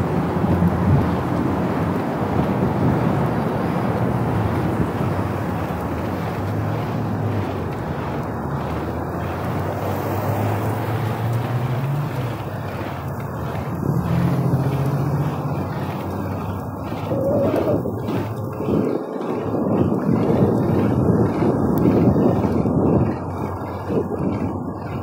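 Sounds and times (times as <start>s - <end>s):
road traffic hum: 0.0s - 25.0s
wind rush on microphone: 0.0s - 25.0s.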